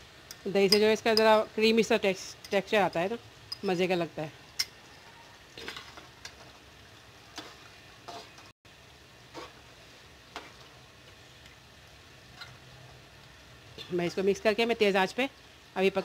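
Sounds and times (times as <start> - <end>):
curry sizzling: 0.0 - 16.0.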